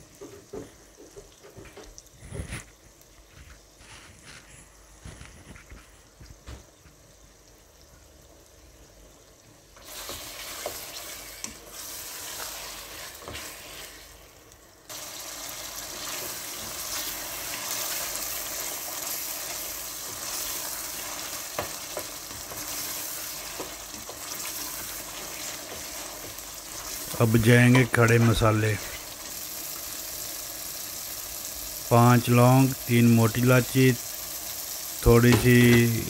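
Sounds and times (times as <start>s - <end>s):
masala sizzling in oil: 0.0s - 36.0s.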